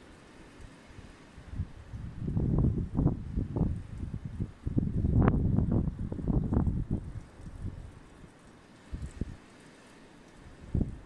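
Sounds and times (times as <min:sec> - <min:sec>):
wind buffeting microphone: 0:00.5 - 0:09.5, 0:10.3 - 0:11.0.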